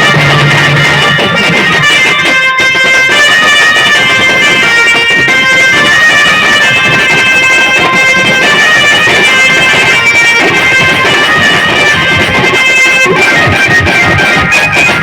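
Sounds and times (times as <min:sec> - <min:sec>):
band playing loud music: 0:00.0 - 0:15.0
reedy wind melody: 0:00.0 - 0:15.0.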